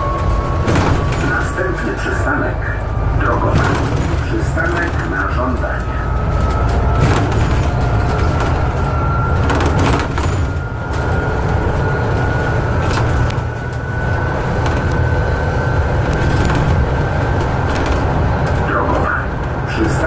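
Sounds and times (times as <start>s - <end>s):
sharp knocks and rattles: 0.0s - 1.6s, 3.4s - 18.7s
bus engine low rumble: 0.0s - 20.0s.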